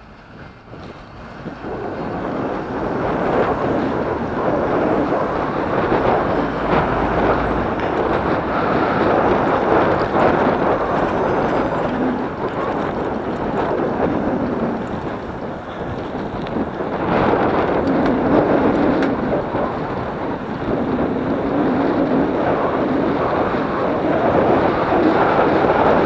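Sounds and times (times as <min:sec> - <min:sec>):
wind and road rushing: 0:00.0 - 0:26.0.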